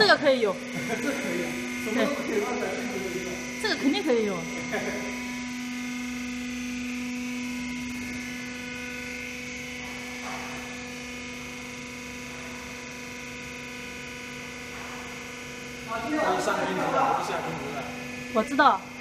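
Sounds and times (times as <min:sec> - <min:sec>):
mixer electric hum: 0:00.0 - 0:19.0.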